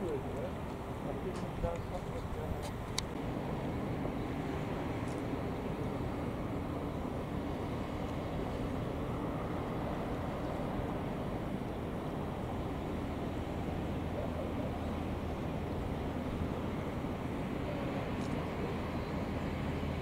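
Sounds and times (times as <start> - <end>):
diesel boat engine droning: 0.0 - 20.0.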